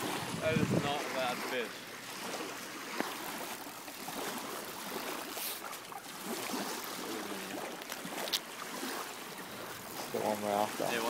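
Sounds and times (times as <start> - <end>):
river water lapping at bank: 0.0 - 11.0.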